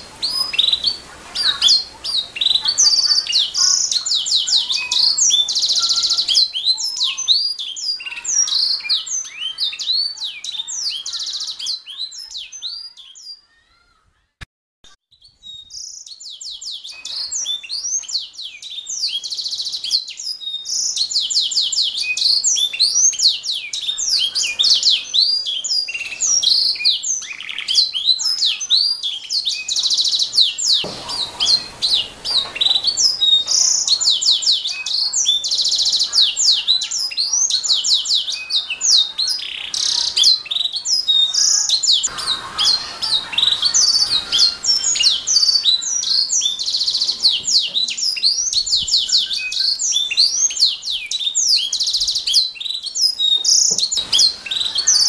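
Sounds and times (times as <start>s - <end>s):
canary singing trills: 0.0s - 14.0s, 15.1s - 55.0s.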